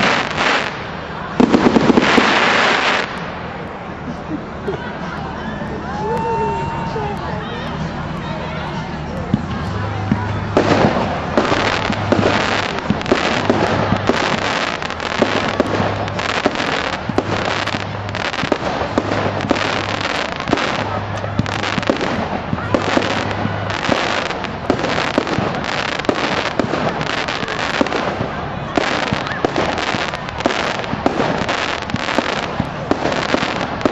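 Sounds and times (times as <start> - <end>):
fireworks bangs and crackles: 0.0 - 5.4, 7.8 - 33.9.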